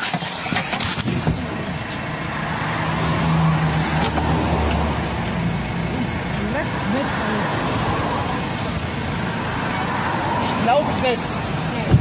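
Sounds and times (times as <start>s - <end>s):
motor vehicle engine running: 0.0s - 12.0s
traffic noise: 0.0s - 12.0s
low engine hum: 0.3s - 12.0s.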